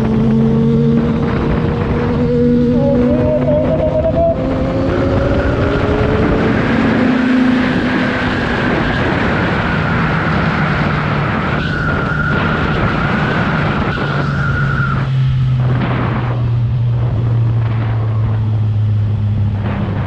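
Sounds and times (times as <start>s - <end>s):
motorcycle engine at speed: 0.0s - 20.0s.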